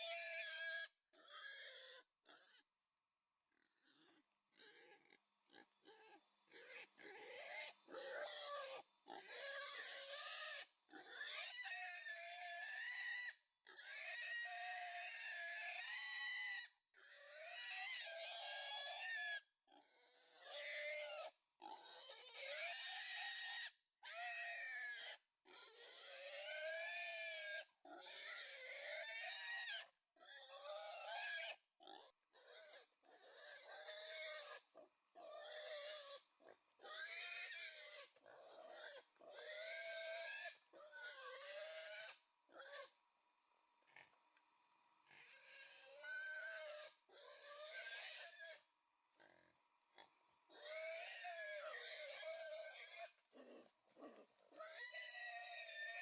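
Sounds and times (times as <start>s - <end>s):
pig squealing: 0.0s - 2.6s, 3.6s - 42.9s, 45.1s - 56.0s.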